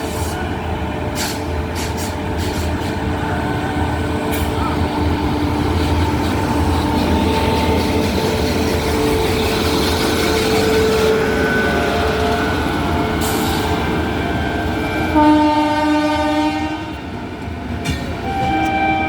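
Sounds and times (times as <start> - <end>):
electric locomotive humming: 0.0 - 19.0.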